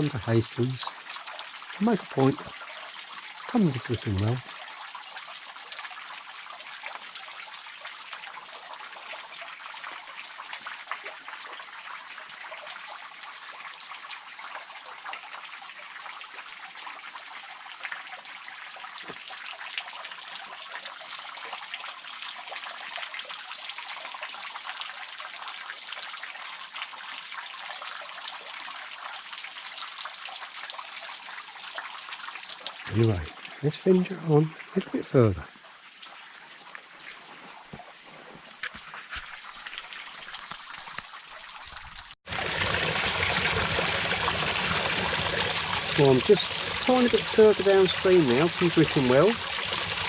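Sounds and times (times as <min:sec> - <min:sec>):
water dripping and trickling: 0:00.0 - 0:50.0.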